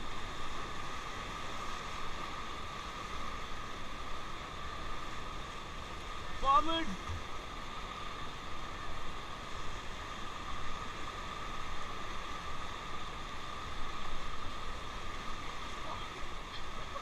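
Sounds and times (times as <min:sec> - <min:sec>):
rushing choppy river water: 0:00.0 - 0:17.0.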